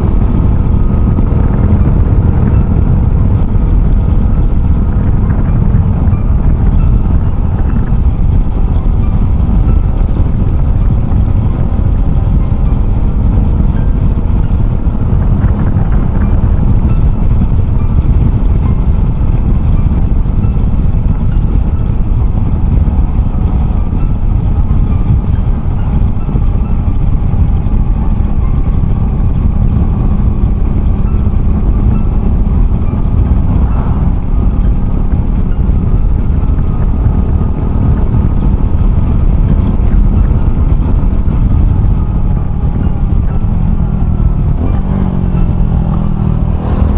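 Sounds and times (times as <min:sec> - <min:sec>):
motorcycle engine running: 0:00.0 - 0:46.9
wind rumble on microphone: 0:00.0 - 0:46.9.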